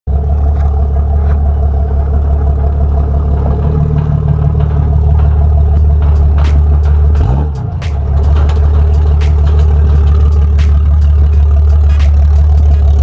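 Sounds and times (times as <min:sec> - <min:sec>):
engine running: 0:00.1 - 0:13.0.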